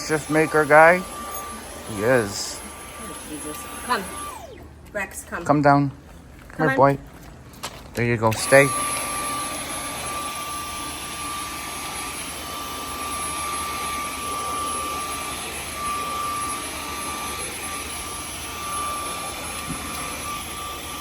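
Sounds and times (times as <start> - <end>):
vacuum cleaner whining: 0.0 - 6.0, 8.3 - 21.0.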